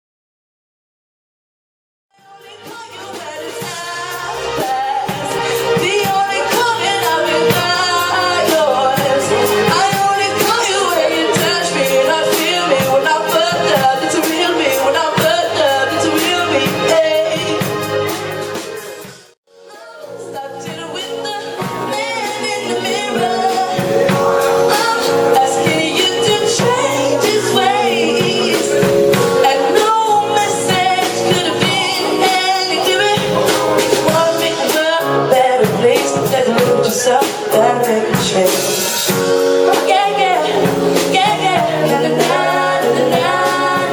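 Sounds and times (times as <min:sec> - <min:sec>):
person singing: 0:02.2 - 0:18.7, 0:19.6 - 0:43.9
steady drum beat: 0:02.2 - 0:19.4, 0:20.6 - 0:43.9
live band playing upbeat groove: 0:02.2 - 0:43.9.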